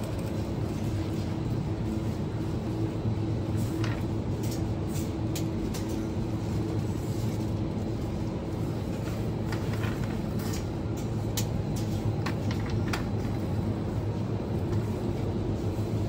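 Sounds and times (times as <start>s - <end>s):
refrigerated display cases humming: 0.0s - 16.0s.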